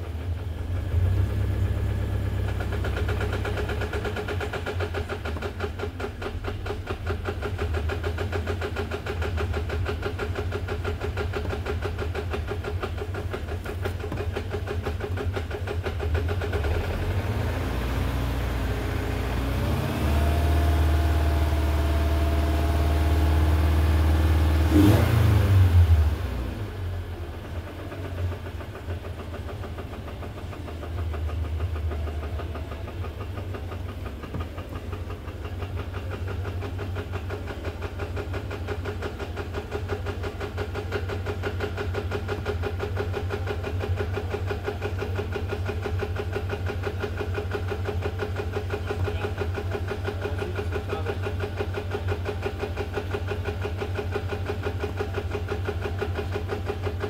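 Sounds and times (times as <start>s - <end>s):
car engine idling with rattle: 0.0s - 57.0s.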